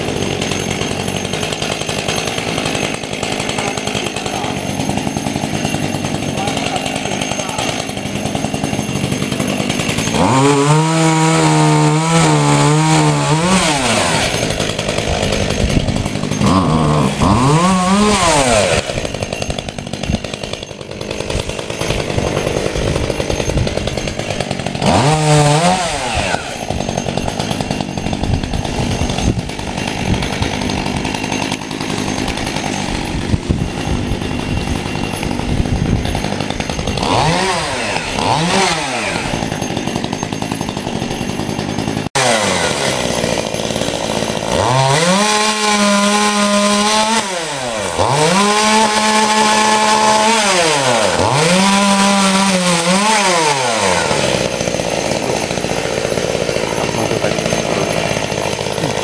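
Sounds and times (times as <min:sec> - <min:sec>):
chainsaw cutting branches: 0:00.0 - 0:59.0.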